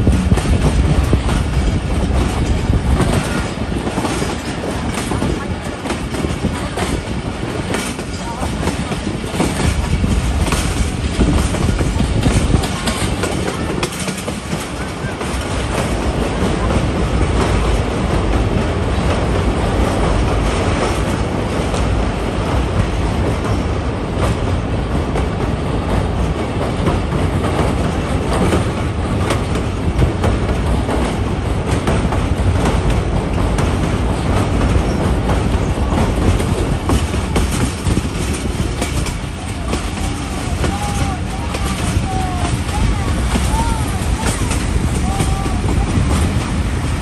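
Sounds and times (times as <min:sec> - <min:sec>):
train wheels rumbling on rails: 0:00.0 - 0:47.0
wheels clicking over rail joints: 0:00.0 - 0:47.0.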